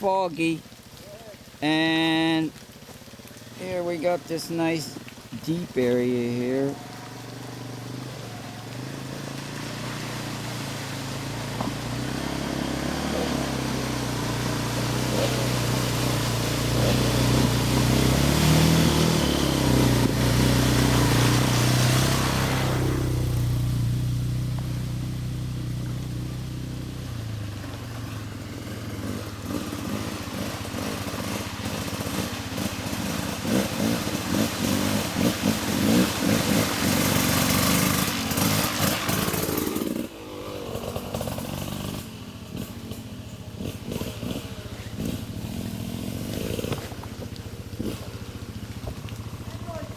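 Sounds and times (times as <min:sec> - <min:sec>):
atv engines revving: 0:00.0 - 0:49.9.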